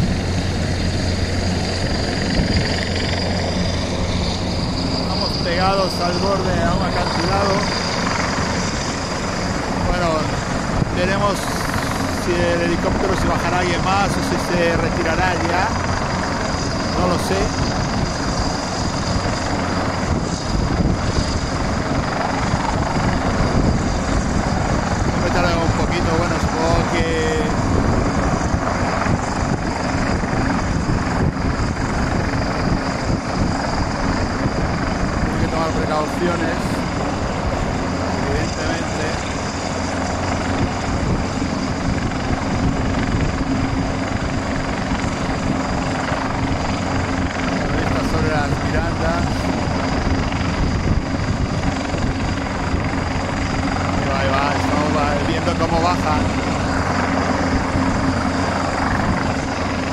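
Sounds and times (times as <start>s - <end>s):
faint high whine: 0.0s - 59.9s
helicopter hovering: 0.0s - 59.9s.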